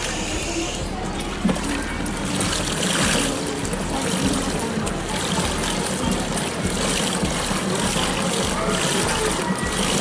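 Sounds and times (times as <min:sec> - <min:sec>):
water sloshing in washing machine: 0:00.0 - 0:10.0.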